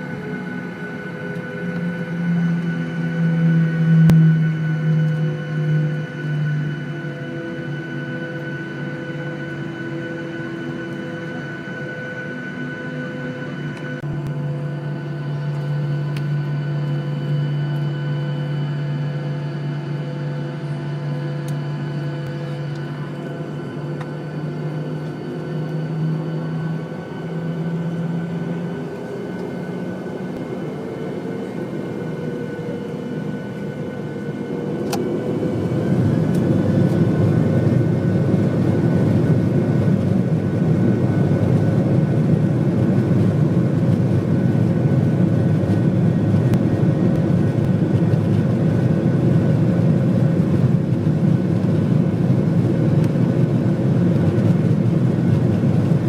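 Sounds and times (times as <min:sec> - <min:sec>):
airliner cabin hum: 0:00.0 - 0:56.0.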